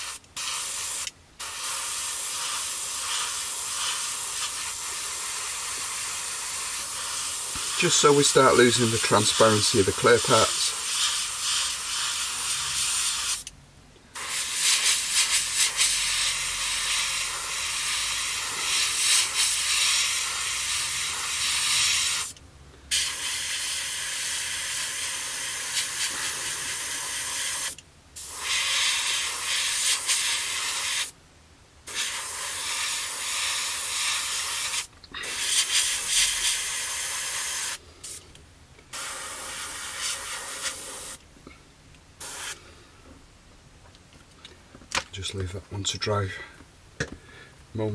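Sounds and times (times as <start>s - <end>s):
airbrush spraying hiss: 0.0s - 13.5s, 14.2s - 31.2s, 31.9s - 38.2s, 38.9s - 41.2s, 42.2s - 42.6s.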